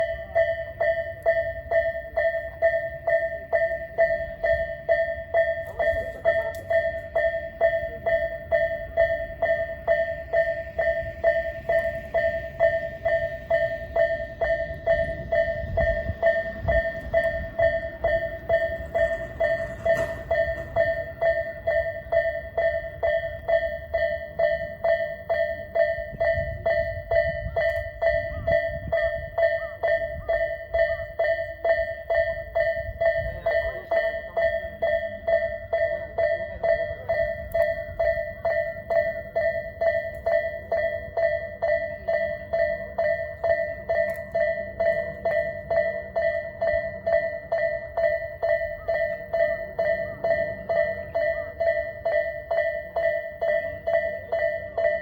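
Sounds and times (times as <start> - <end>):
level-crossing warning bell ringing: 0.0 - 55.0
low rumble of a train: 0.0 - 55.0.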